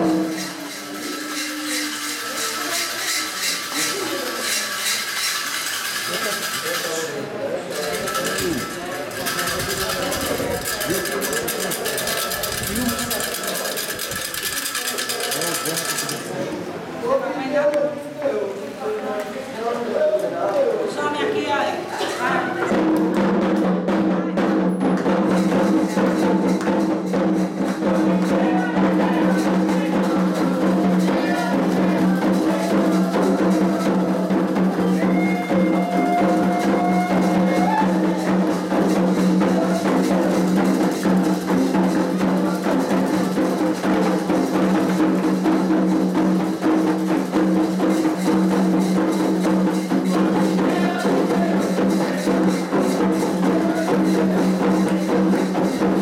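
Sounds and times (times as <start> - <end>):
hand drums drumming: 0.0 - 6.8, 7.8 - 16.3, 22.4 - 56.0.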